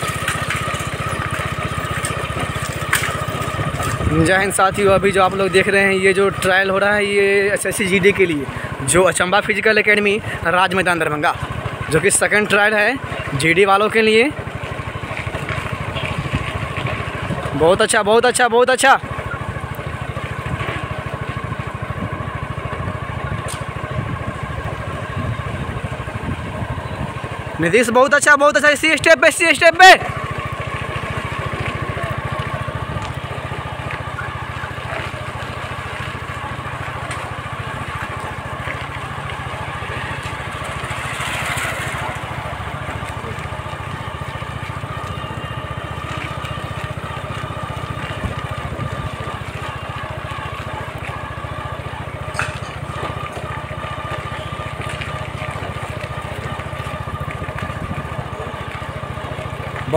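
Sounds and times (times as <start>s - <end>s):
small engine droning with whine: 0.0s - 59.9s.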